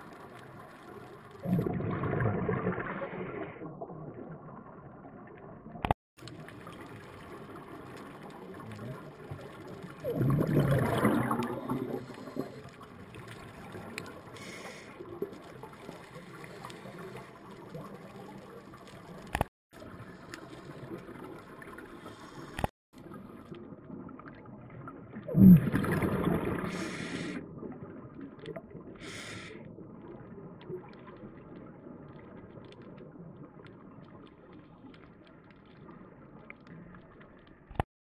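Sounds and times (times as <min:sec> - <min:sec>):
gurgling rush of bubbles: 0:00.0 - 0:37.4.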